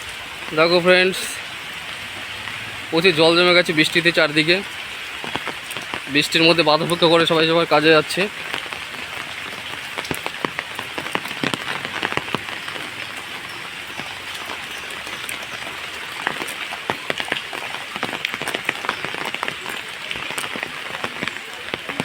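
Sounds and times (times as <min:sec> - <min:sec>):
raindrops ticking on a surface: 0:00.0 - 0:22.0
steady rain hiss: 0:00.0 - 0:22.0.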